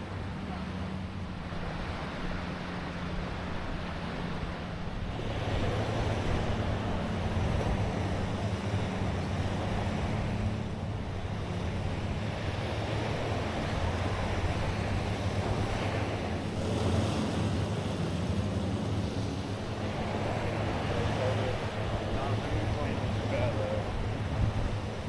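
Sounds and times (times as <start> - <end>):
waves washing on beach: 0.0 - 25.0
wind buffeting microphone: 0.0 - 25.0.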